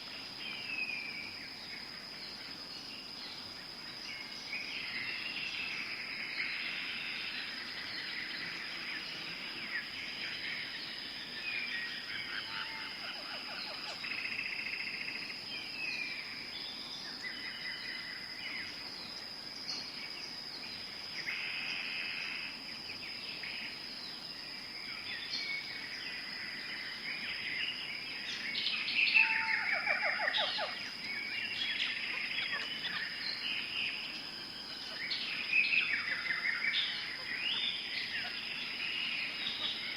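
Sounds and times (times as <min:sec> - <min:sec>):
birds chirping and trilling: 0:00.0 - 0:39.9
high insect drone: 0:00.0 - 0:39.9.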